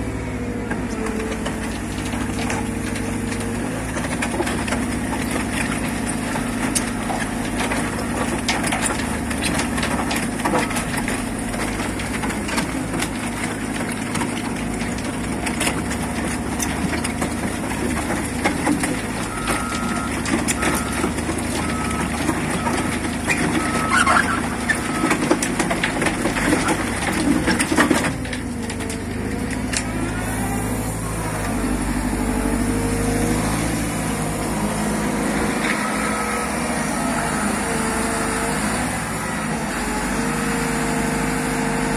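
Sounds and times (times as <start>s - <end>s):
diesel engine and hydraulics: 0.0s - 41.9s
soil and stone rattling: 0.6s - 41.4s.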